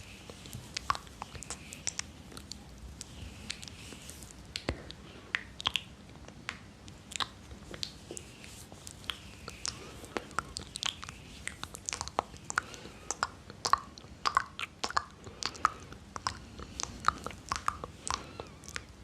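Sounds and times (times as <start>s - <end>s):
soft breathy hiss: 0.0s - 6.0s, 6.9s - 19.0s
wet lip and tongue clicks: 0.2s - 3.8s, 4.5s - 8.3s, 8.9s - 19.0s.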